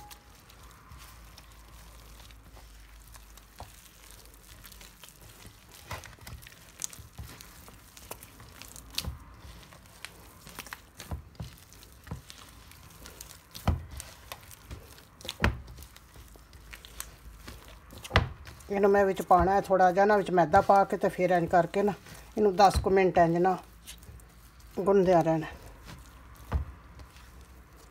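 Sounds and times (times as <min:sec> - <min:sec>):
dough squelching and slapping: 0:00.0 - 0:27.9.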